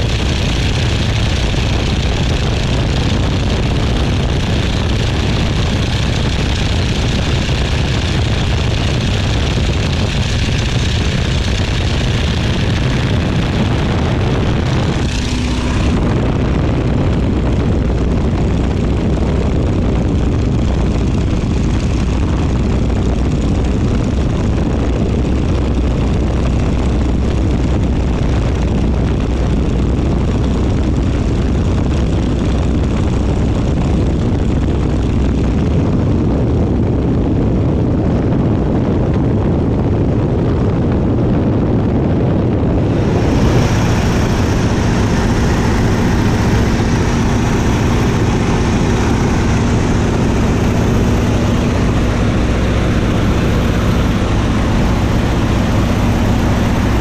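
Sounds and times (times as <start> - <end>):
biplane engine and propeller: 0.0 - 57.0.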